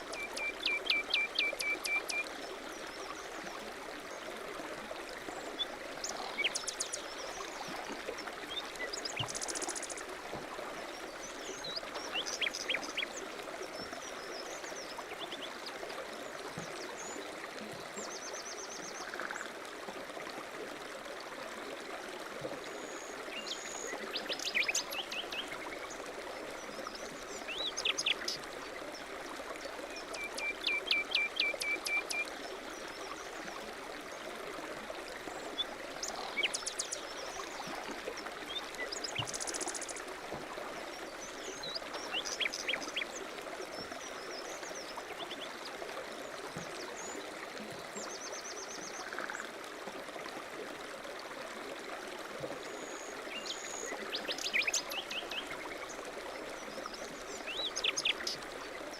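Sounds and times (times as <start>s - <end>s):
stream running: 0.0s - 58.9s.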